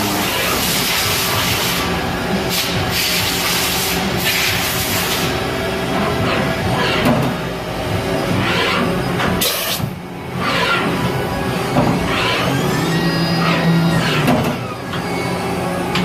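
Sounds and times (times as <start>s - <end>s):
milling machine whine: 0.0s - 16.0s.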